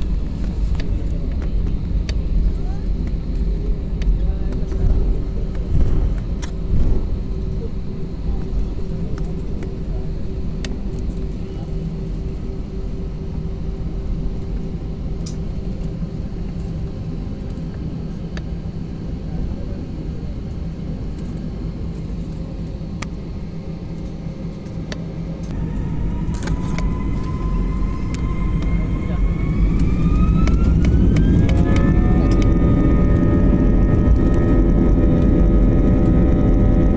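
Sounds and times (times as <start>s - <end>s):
jet engines rumbling: 0.0s - 36.9s
jet engines spooling up whine: 0.0s - 36.9s.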